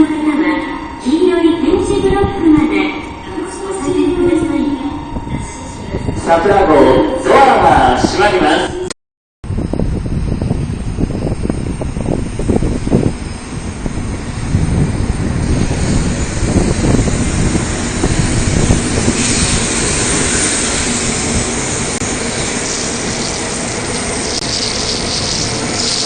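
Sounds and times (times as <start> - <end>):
train rumbling and rushing: 0.0 - 26.0.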